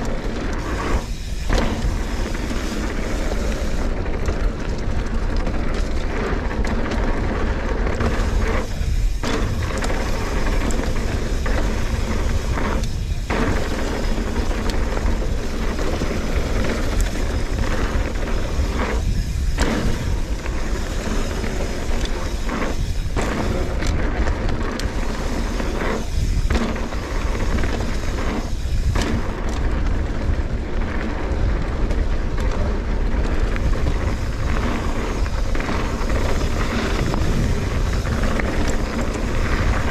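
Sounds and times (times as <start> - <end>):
bike knocks and rattles: 0.0 - 39.9
bike tyre rumble: 0.0 - 39.9
wind buffeting microphone: 0.0 - 39.9.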